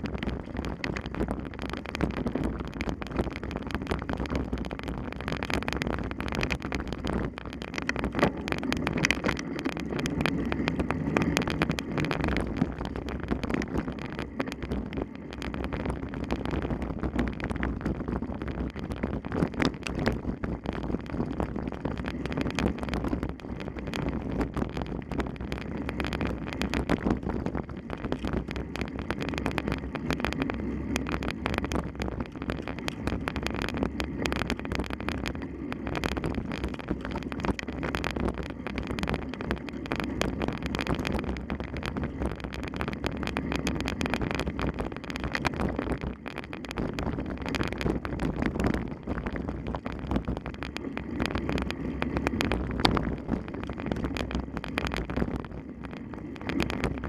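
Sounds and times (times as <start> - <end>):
rumbling wind on microphone: 0.0 - 57.0.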